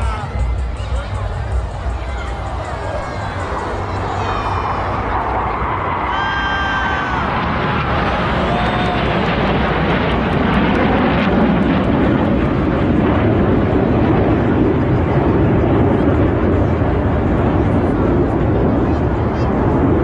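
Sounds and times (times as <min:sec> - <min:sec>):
airplane flying overhead: 0:00.0 - 0:20.0.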